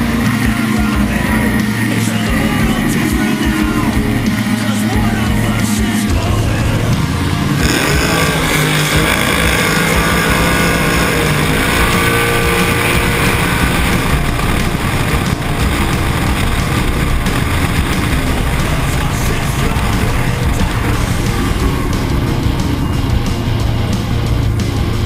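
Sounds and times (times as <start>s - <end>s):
drag car engine at full throttle: 0.0s - 25.0s.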